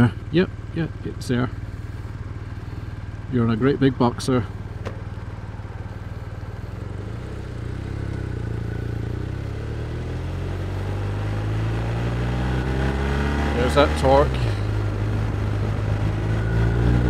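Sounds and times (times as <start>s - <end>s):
motorcycle engine idling and accelerating: 0.0s - 17.0s.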